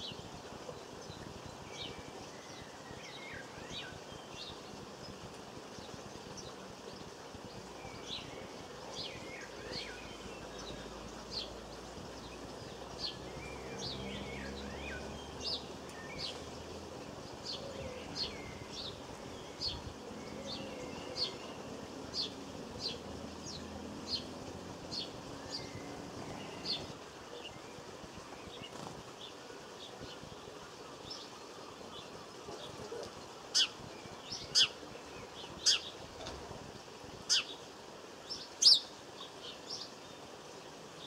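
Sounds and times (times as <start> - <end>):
lower bird chirps: 0.0 - 36.0, 37.3 - 37.7, 38.3 - 40.3
small birds calling: 0.0 - 41.0.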